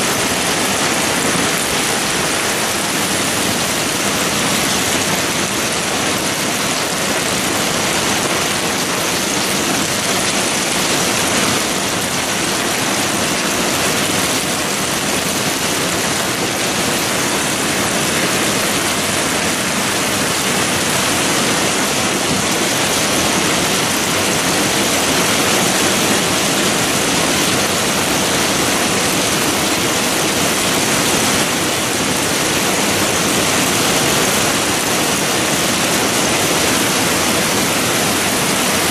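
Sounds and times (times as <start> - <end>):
heavy rain and hail: 0.0 - 38.9.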